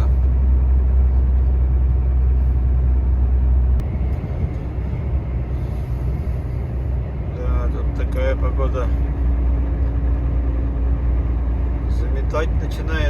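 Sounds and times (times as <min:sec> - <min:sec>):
truck engine and road drone: 0:00.0 - 0:13.0.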